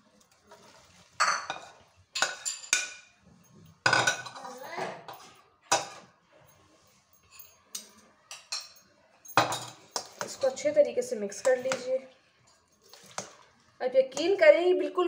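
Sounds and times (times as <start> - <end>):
spoon clinking and scraping bowl: 0.3 - 3.2, 3.8 - 14.4.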